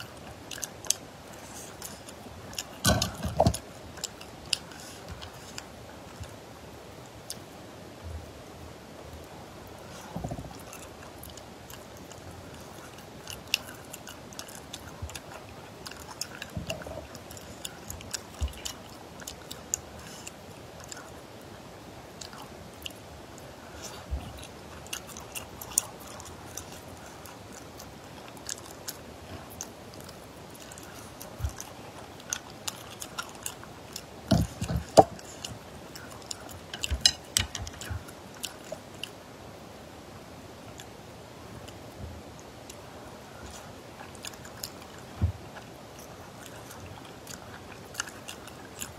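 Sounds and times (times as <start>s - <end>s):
chewing mouth sounds: 0.0s - 6.4s, 9.7s - 39.2s, 41.6s - 48.9s.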